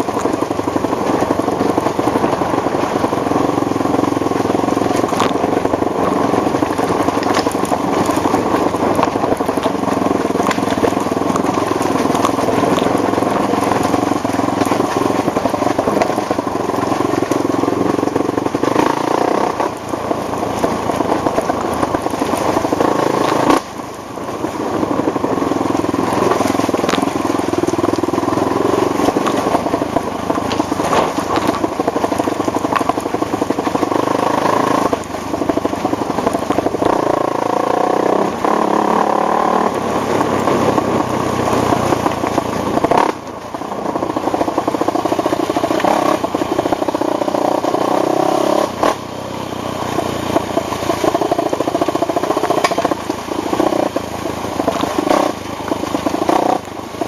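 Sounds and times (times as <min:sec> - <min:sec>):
atv engine revving: 0:00.0 - 0:57.0
rough crackling noise: 0:00.0 - 0:57.0.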